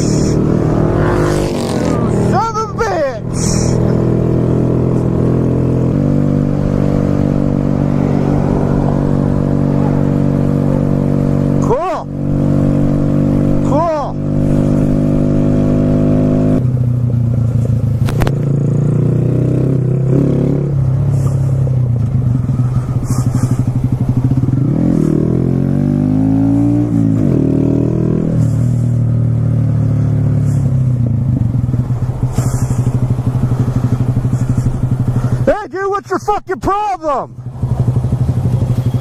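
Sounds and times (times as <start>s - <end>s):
motorcycle engine running: 0.0s - 35.6s, 37.2s - 39.0s.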